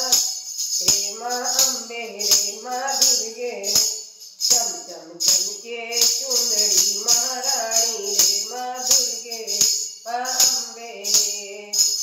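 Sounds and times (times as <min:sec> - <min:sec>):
jingling hand percussion: 0:00.0 - 0:12.0
woman singing devotional song: 0:00.0 - 0:12.0.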